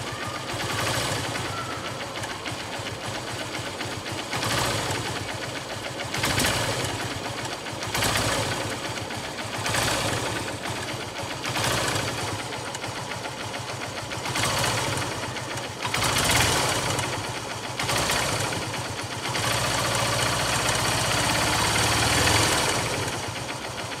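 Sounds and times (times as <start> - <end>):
motorcycle engine running: 0.0 - 24.0
rapid engine ticking: 0.0 - 24.0.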